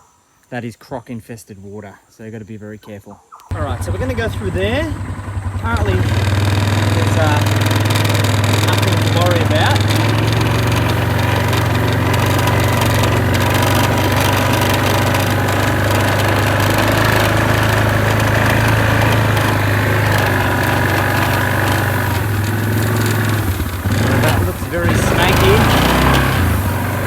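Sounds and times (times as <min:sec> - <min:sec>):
vehicle engine running: 0:03.5 - 0:27.0.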